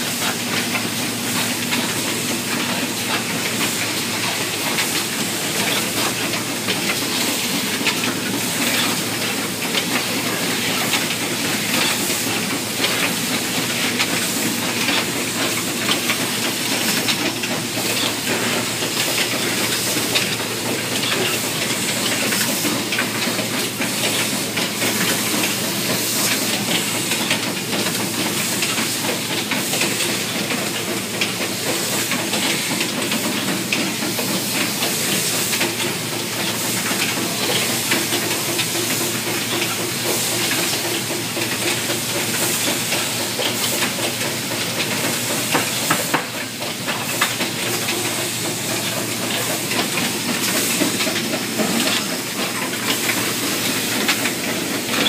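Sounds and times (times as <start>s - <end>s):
machine hiss: 0.0s - 55.0s.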